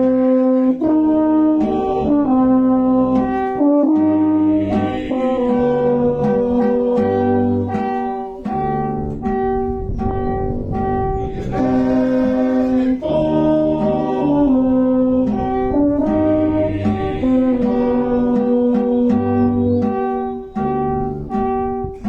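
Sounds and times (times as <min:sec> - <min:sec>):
brass band playing: 0:00.0 - 0:22.0.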